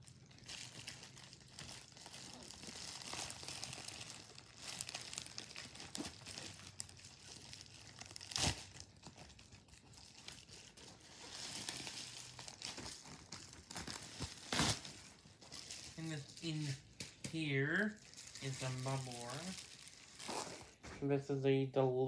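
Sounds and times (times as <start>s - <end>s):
bubble wrap crinkling: 0.0s - 20.8s.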